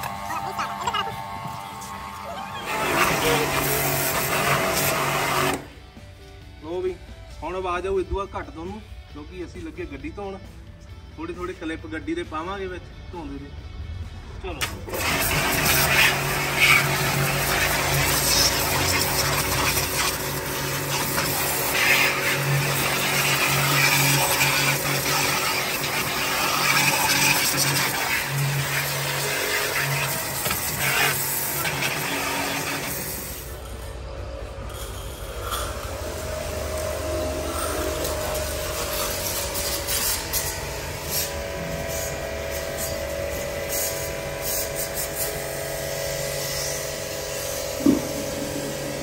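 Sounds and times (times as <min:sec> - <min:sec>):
water jet hissing: 0:00.0 - 0:05.7, 0:14.9 - 0:34.0, 0:34.6 - 0:49.0
pressure washer pump humming: 0:00.0 - 0:06.2, 0:14.6 - 0:49.0.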